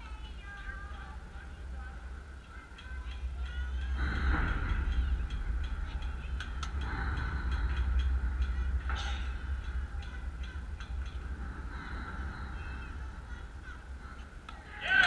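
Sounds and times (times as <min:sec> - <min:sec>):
distant shouts and chatter: 0:00.0 - 0:15.0
wind rumbling on microphone: 0:00.0 - 0:15.0.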